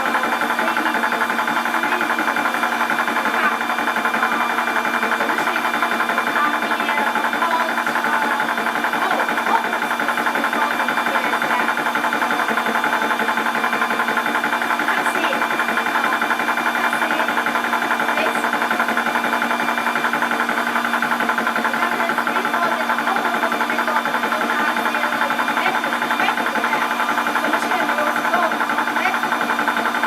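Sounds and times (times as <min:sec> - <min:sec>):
air compressor pumping: 0:00.0 - 0:30.0.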